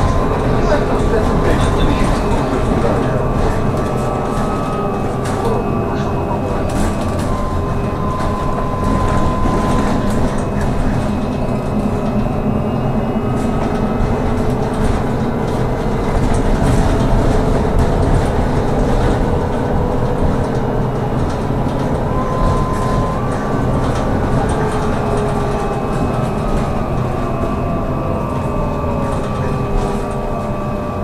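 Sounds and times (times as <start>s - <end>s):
low road rumble: 0.0s - 31.0s.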